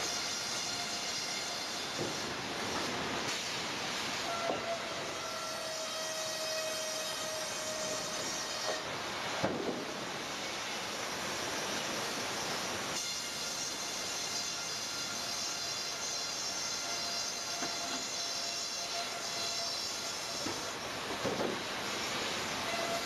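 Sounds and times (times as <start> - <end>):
sawmill machinery hissing: 0.0 - 23.0.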